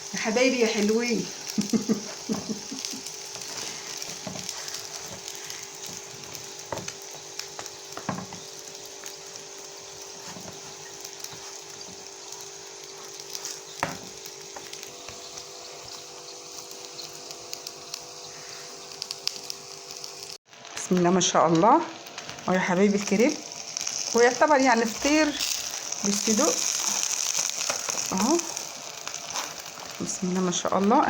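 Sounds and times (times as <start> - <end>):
pastry sizzling in pan: 0.0 - 31.0.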